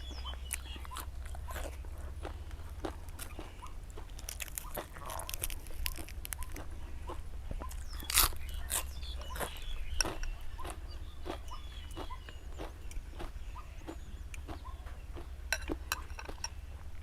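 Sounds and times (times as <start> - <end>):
crunching and chewing crisp food: 0.0 - 17.0
steady low hum: 0.0 - 17.0.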